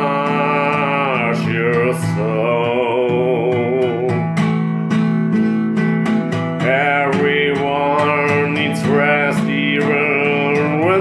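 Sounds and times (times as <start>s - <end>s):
man singing with vibrato: 0.0s - 4.7s, 6.2s - 11.0s
strummed guitar: 0.0s - 11.0s.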